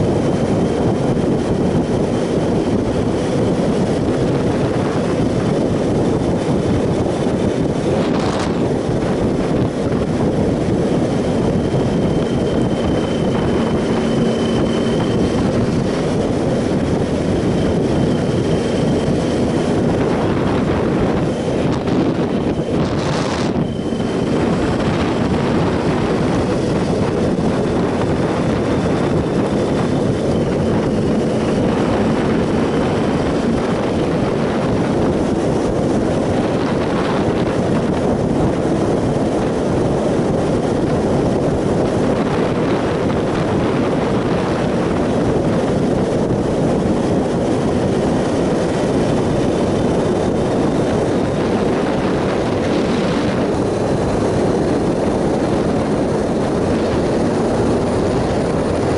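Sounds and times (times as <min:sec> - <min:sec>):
motorcycle engine cruising: 0:00.0 - 0:58.9
wind rushing over microphone: 0:00.0 - 0:58.9.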